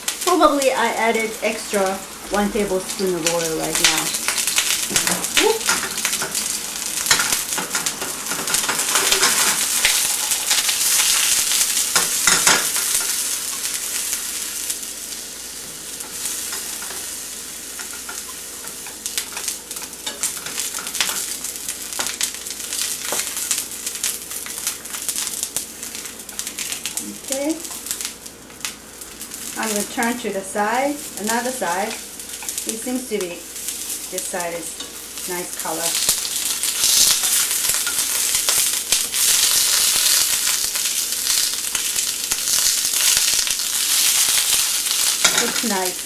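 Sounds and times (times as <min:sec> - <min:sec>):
eggplant sizzling in hot oil: 0:00.0 - 0:46.0.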